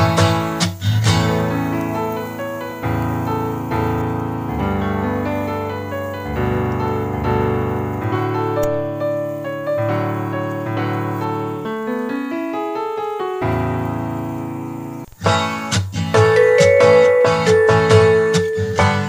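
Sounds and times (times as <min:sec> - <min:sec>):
slow piano piece: 0:00.0 - 0:19.0
background music: 0:01.2 - 0:19.0.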